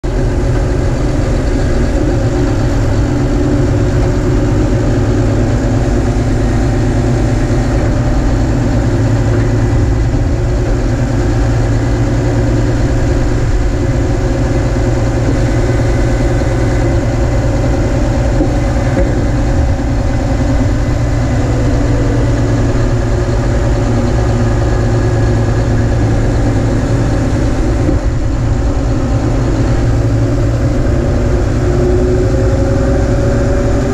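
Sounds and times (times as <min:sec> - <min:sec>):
diesel truck engine under load: 0:00.0 - 0:33.9
snow rushing off plow blade: 0:00.1 - 0:33.9.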